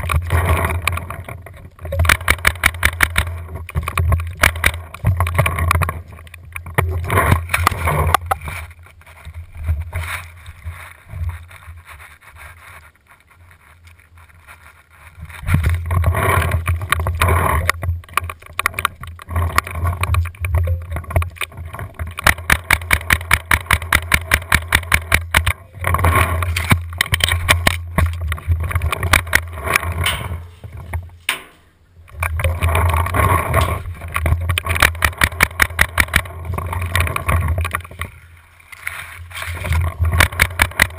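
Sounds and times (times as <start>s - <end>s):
wind and handling rumble: 0.0s - 40.9s.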